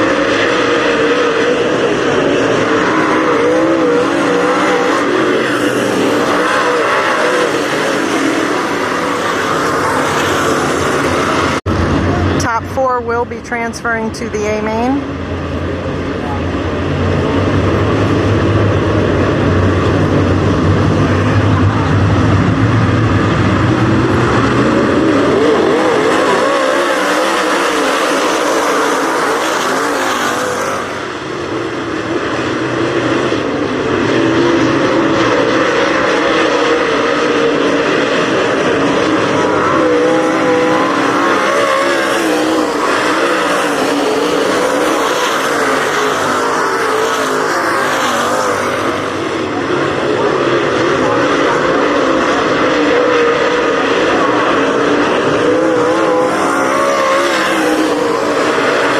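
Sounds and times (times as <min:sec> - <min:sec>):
race car engines: 0:00.0 - 0:58.9.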